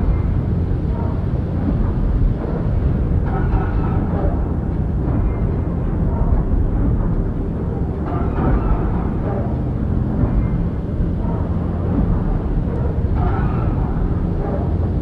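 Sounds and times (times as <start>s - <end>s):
heavy low machine rumble: 0.0s - 15.0s.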